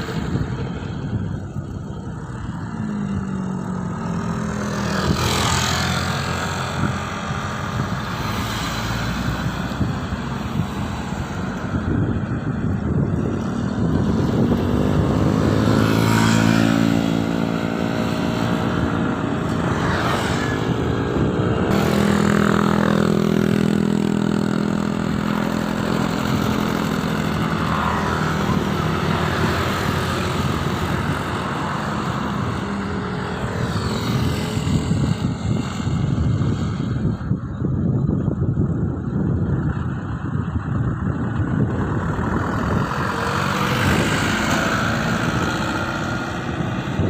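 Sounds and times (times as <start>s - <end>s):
road noise: 0.0s - 47.0s
vehicle engines running: 0.0s - 47.0s.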